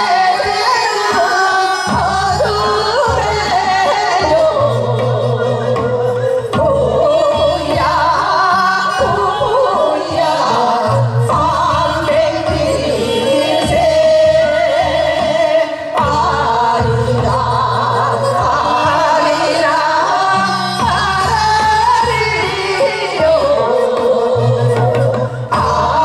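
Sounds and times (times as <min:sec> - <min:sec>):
women singing in unison: 0:00.0 - 0:26.0.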